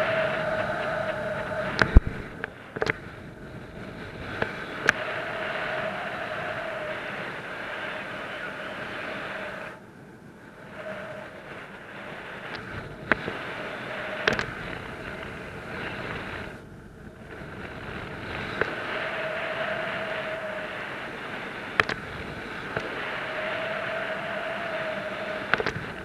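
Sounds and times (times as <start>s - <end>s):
faint steady tone: 0.0s - 26.0s
wind rushing over microphone: 0.0s - 26.0s.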